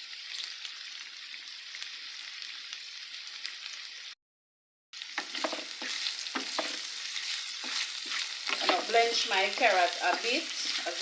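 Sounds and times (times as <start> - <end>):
carrots sizzling in a pot: 0.0 - 4.2, 5.0 - 11.0.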